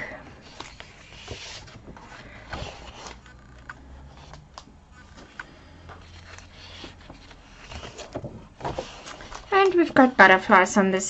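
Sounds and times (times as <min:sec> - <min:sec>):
paper sheets rustling: 0:00.4 - 0:10.7.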